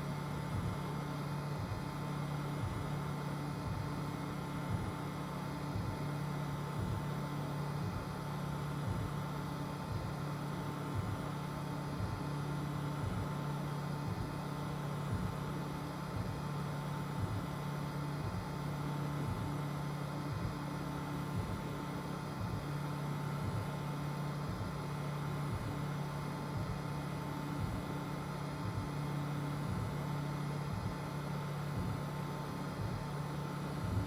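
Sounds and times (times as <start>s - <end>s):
cooling fans hissing: 0.0s - 34.0s
steady whine: 0.0s - 34.0s
stepper motors humming: 0.0s - 34.0s.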